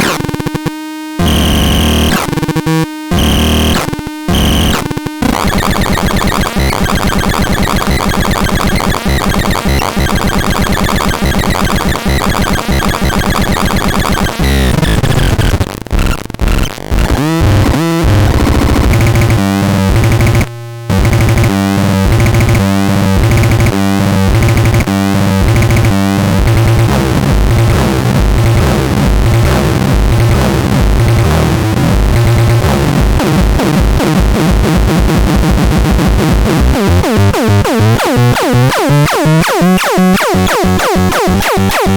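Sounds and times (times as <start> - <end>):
harsh electronic synthesized tones: 0.0 - 41.9.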